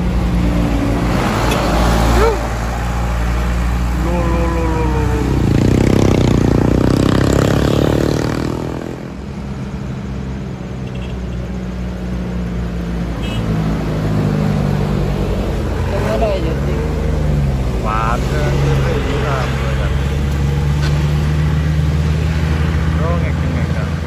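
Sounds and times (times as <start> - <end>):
motorcycles passing: 0.0 - 24.0
truck engines passing: 0.0 - 24.0.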